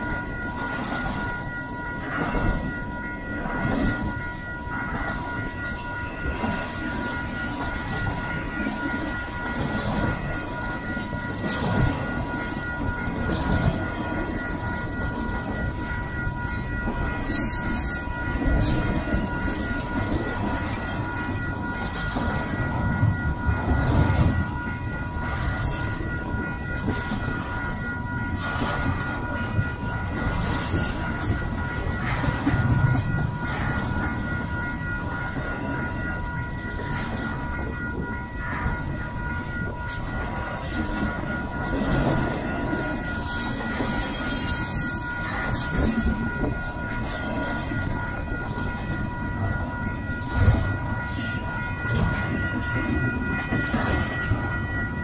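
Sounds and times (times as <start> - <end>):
freight train wheels rumbling: 0.0 - 55.0
high ringing tone: 0.0 - 55.0
train clanks and knocks: 0.0 - 55.0.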